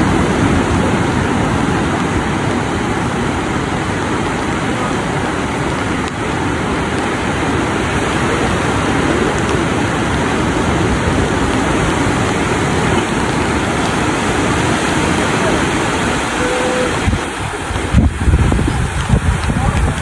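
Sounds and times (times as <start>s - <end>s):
sea surf breaking: 0.0s - 20.0s.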